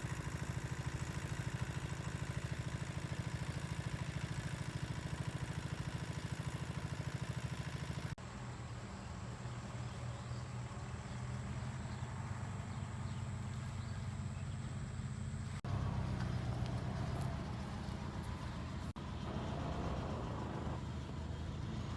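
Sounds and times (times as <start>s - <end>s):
low engine drone: 3.8s - 21.9s.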